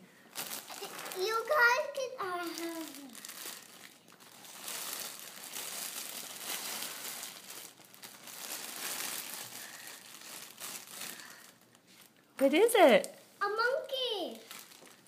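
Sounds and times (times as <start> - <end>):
wrapping paper crinkling: 0.3 - 12.2, 14.3 - 15.0.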